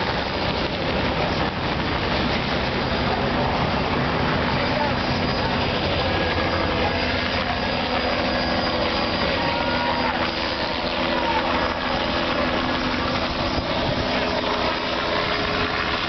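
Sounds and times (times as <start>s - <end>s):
constant rushing noise: 0.0s - 16.0s
engine drone: 0.0s - 16.0s.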